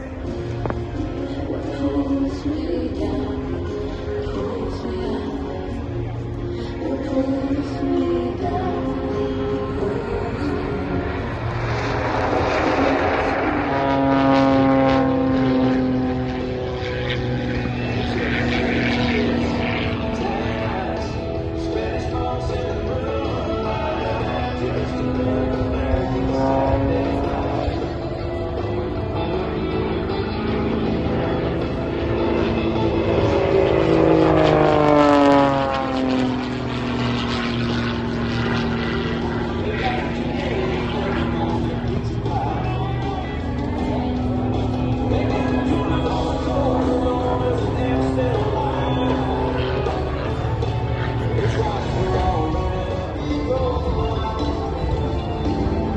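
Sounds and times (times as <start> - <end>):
propeller airplane passing overhead: 0.0 - 55.9.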